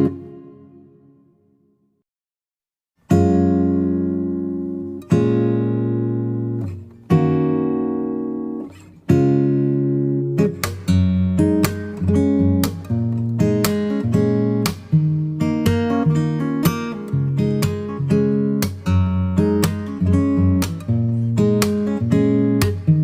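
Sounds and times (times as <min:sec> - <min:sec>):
acoustic guitar strumming chords: 0:00.0 - 0:01.3, 0:03.1 - 0:23.0.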